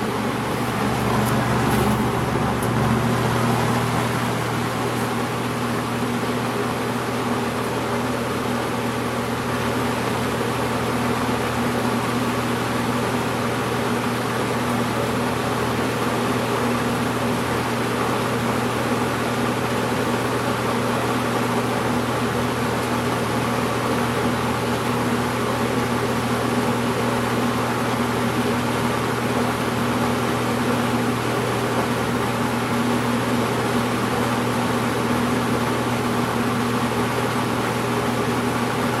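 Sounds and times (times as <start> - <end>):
box fan running: 0.0 - 39.0.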